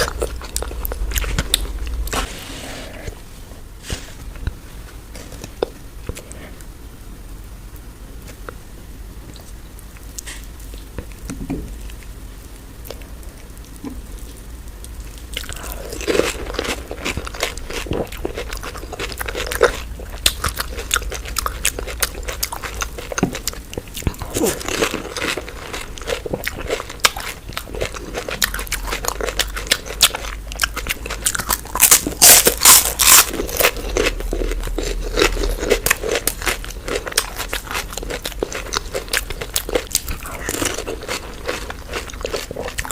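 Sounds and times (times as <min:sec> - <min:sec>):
crunching and chewing crisp food: 0:00.0 - 0:03.2, 0:03.8 - 0:06.7, 0:09.2 - 0:42.9.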